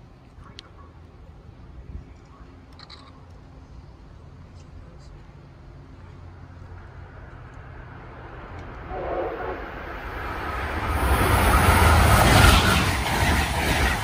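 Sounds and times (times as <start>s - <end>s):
rail and wheel noise: 0.0s - 14.0s
train approaching with deep rumble: 0.0s - 14.0s.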